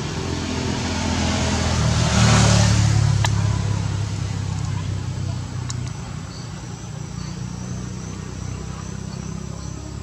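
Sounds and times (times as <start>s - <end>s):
vehicle driving past: 0.0s - 10.0s.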